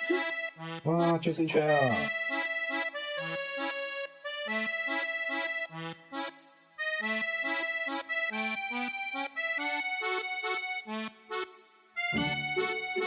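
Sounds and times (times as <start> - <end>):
bouncy instrumental music: 0.0 - 13.0.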